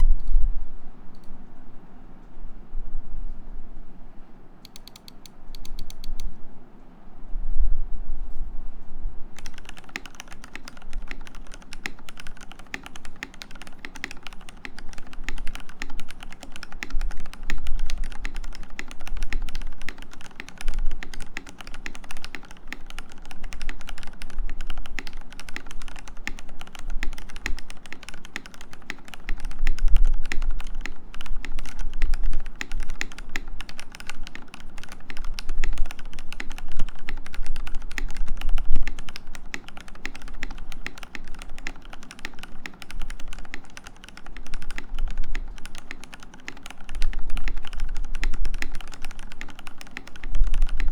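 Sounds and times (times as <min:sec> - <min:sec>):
typing on mechanical keyboard: 0:04.6 - 0:06.3, 0:09.4 - 0:50.9.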